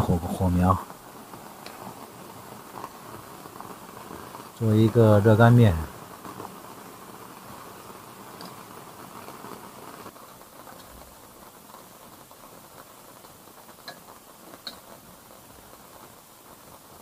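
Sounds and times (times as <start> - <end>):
rain pattering on a roof: 0.0 - 17.0.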